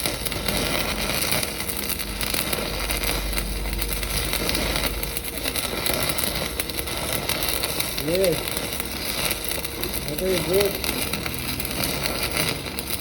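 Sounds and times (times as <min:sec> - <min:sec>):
welding arc crackling and hissing: 0:00.0 - 0:13.0.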